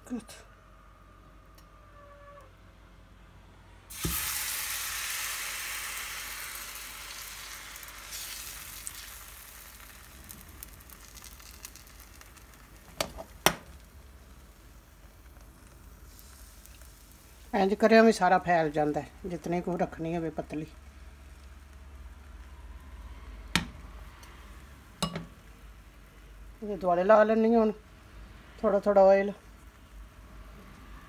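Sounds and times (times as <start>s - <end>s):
batter sizzling in frying pan: 3.9s - 30.2s.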